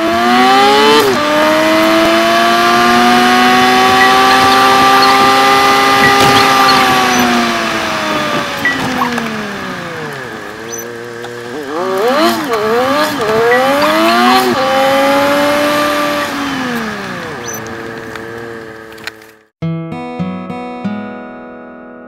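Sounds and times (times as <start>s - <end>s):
sped-up car engine revving: 0.0s - 19.4s
road noise inside a car: 0.2s - 19.3s.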